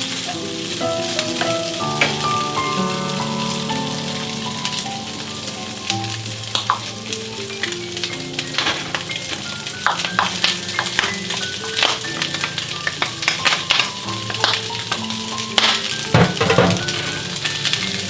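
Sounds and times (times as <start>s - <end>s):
food sizzling in a pan: 0.0s - 18.0s
slow background music: 0.0s - 18.0s.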